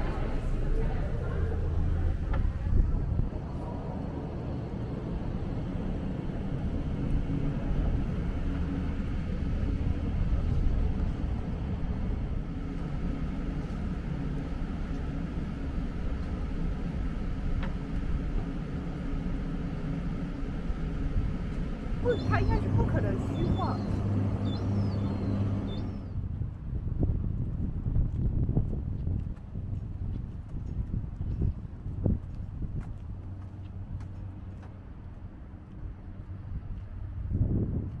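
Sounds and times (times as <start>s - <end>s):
city traffic hum: 0.0s - 38.0s.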